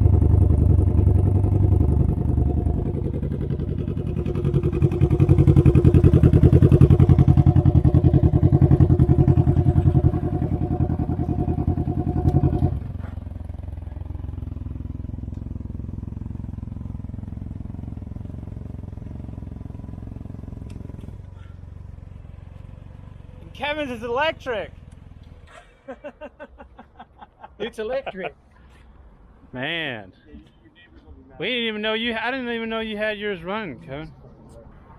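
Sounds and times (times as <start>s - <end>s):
engine and exhaust pulsing: 0.0s - 26.2s, 30.1s - 34.9s.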